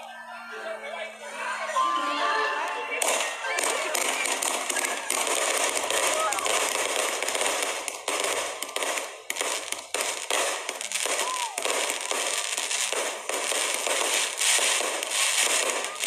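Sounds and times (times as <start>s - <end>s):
firework crackle and pops: 3.0s - 16.0s.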